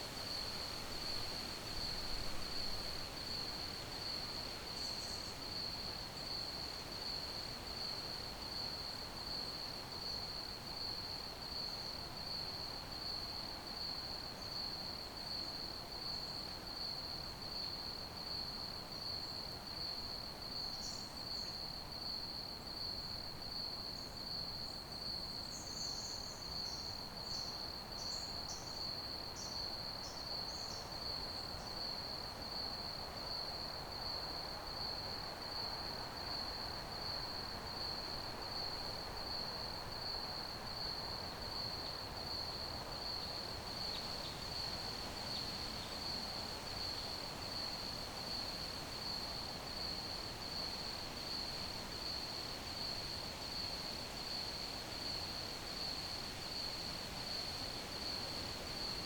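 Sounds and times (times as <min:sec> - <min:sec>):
crickets chirping: 0:00.0 - 0:59.0
soft background hiss: 0:00.0 - 0:59.0.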